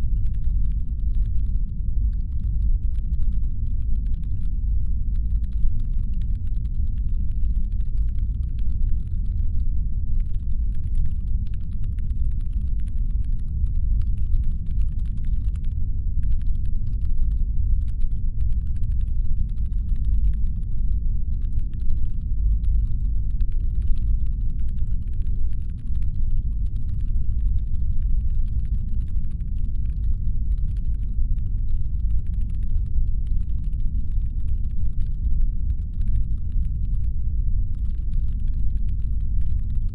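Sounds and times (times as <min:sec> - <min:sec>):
deep low rumble: 0:00.0 - 0:39.9.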